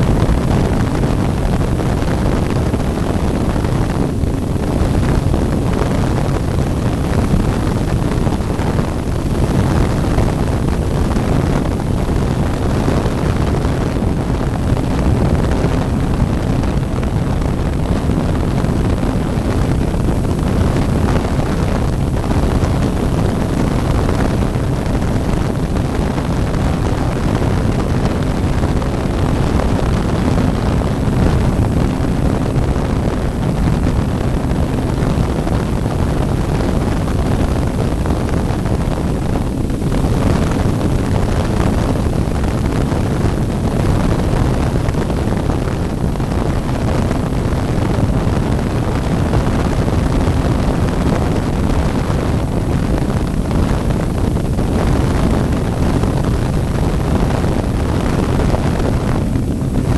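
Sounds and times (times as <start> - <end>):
model airplane engine running: 0.0 - 59.9
wind buffeting microphone: 0.0 - 59.9.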